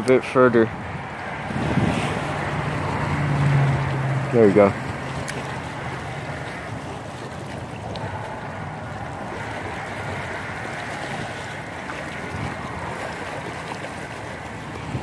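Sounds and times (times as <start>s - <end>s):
waves lapping on rocks: 0.0s - 15.0s.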